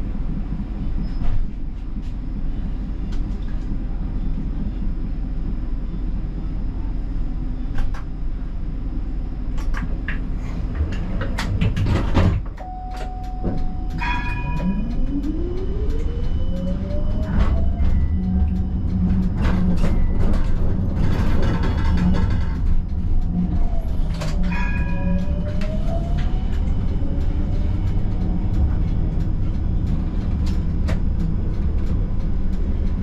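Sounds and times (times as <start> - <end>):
tram rolling rumble: 0.0 - 33.0.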